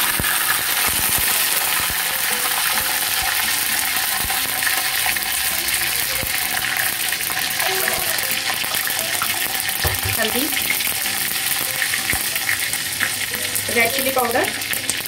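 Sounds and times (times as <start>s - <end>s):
oil popping and crackling: 0.0s - 15.0s
spices sizzling in hot oil: 0.0s - 15.0s.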